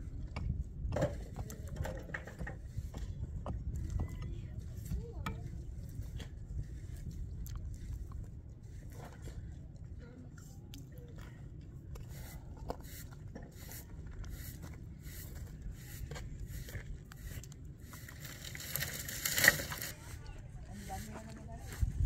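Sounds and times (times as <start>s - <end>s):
steady low rumble: 0.0s - 22.0s
scrapes and crunches on dry dirt: 2.5s - 22.0s.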